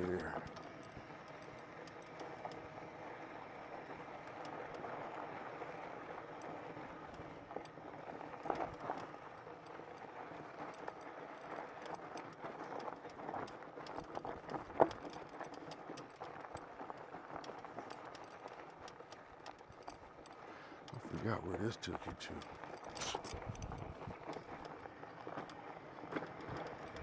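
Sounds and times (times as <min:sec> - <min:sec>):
bike tyres on dirt trail: 0:00.0 - 0:27.0.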